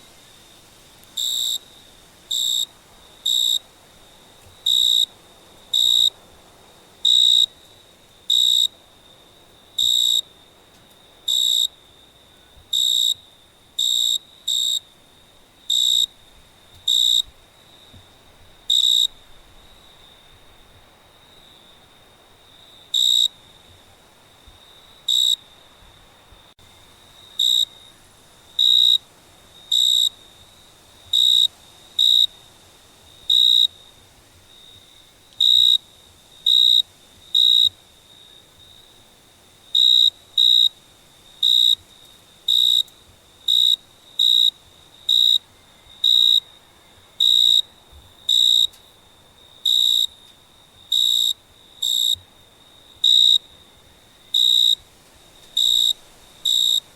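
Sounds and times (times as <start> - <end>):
cricket chirping: 0.0 - 56.9.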